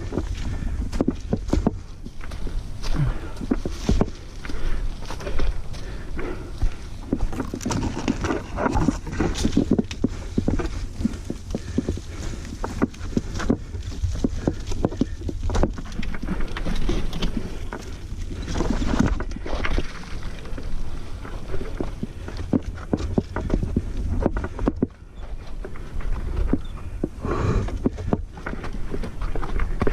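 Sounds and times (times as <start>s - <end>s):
mountain bike rattling: 0.0s - 29.9s.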